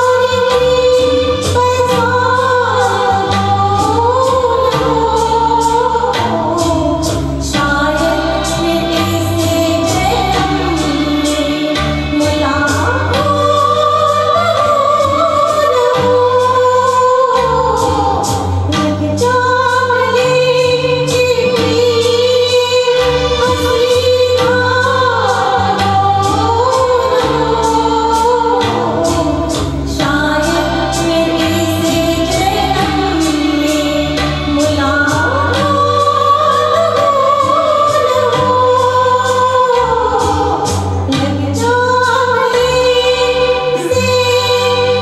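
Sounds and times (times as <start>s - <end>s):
instrumental accompaniment with percussion: 0.0s - 45.0s
woman singing into a microphone: 0.0s - 45.0s.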